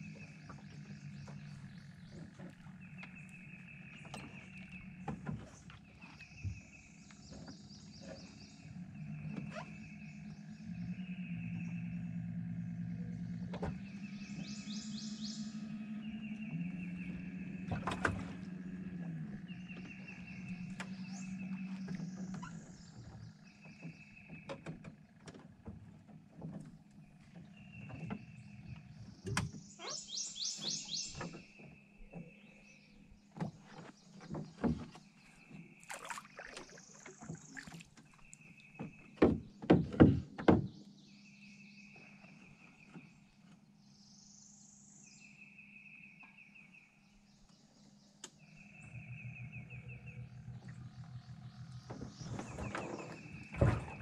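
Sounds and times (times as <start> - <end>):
low steady hum: 0.0 - 40.2, 40.8 - 54.0
birds singing: 0.0 - 54.0.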